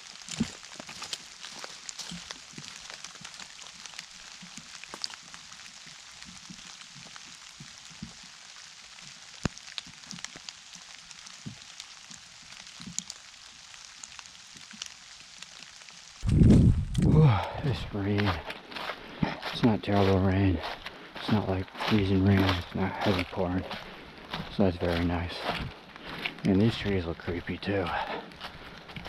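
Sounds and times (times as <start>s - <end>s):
light rain pattering: 0.0s - 29.0s.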